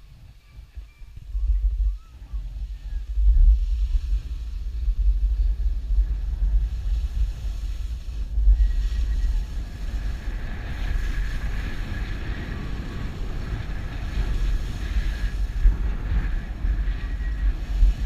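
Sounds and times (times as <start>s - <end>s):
wind buffeting microphone: 0.0s - 18.0s
skis sliding over packed snow: 2.6s - 18.0s.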